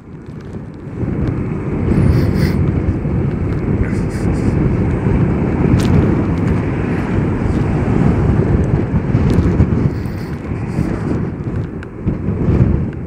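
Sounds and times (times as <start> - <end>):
tyre and road noise: 0.0 - 13.0
wind rushing over microphone: 0.0 - 13.0.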